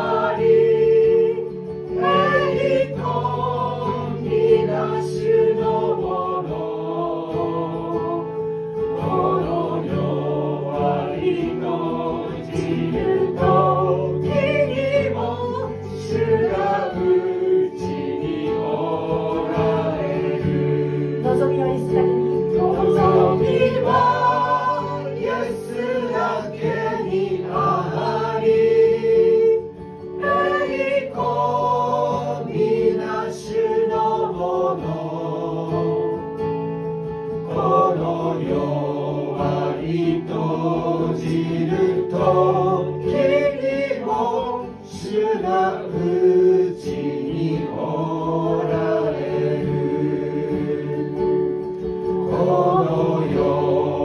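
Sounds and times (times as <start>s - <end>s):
acoustic guitar: 0.0s - 54.0s
people singing worship song: 0.0s - 54.0s.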